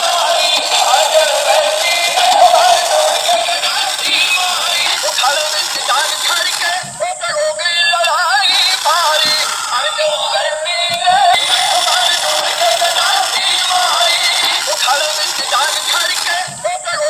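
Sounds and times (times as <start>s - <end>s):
song with synthetic singing voice: 0.0s - 17.0s.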